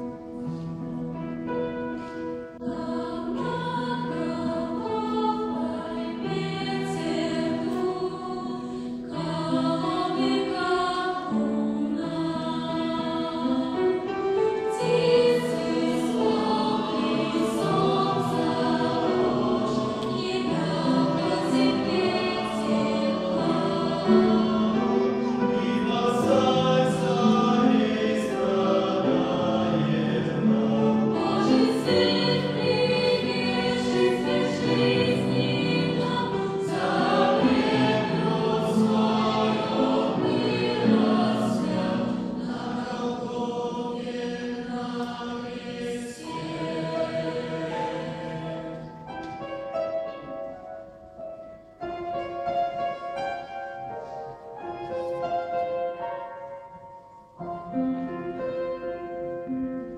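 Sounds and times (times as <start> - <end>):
church choir singing a hymn: 0.0 - 51.3, 52.0 - 59.9.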